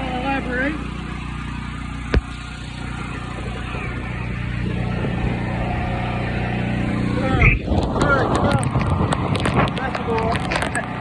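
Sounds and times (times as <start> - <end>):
power generator engine hum: 0.0 - 11.0.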